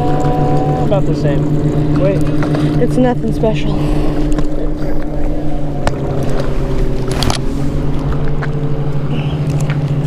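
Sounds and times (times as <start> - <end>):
motorboat engine humming: 0.0 - 10.0.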